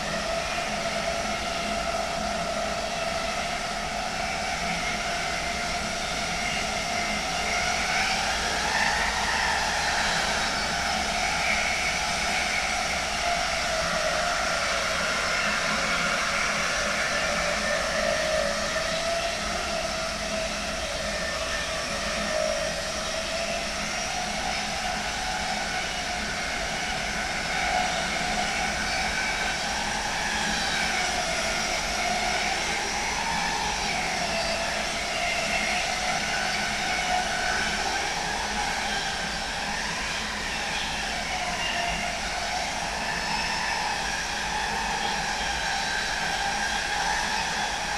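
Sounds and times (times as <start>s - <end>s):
electric locomotive inverter whine: 0.0s - 47.9s
train rumbling: 0.0s - 47.9s.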